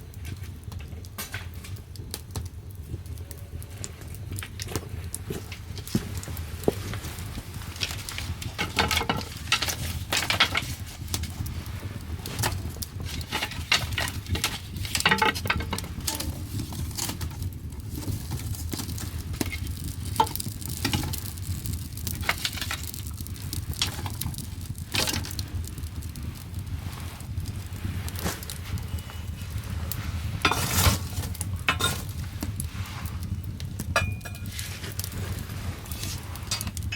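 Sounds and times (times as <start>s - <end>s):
fire low rumble: 0.0s - 36.9s
firewood crackling and popping: 0.0s - 36.9s.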